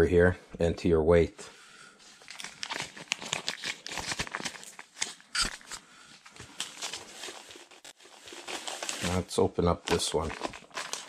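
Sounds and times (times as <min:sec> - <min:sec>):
plastic bags rustling: 0:02.0 - 0:11.0.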